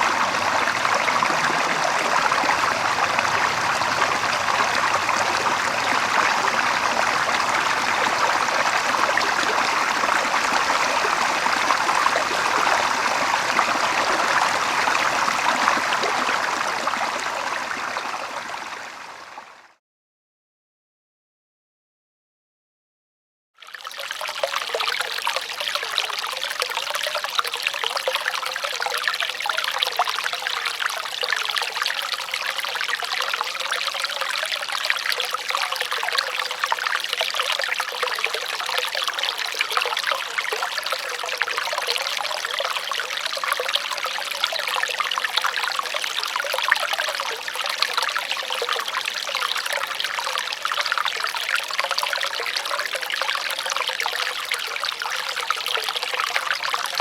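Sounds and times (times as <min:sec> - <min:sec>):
water trickling and splashing: 0:00.0 - 0:19.6, 0:23.6 - 0:57.0.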